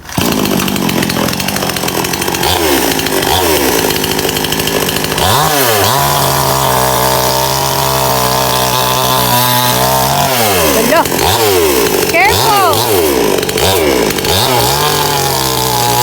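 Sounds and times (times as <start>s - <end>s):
chainsaw cutting at high revs: 0.0s - 16.0s.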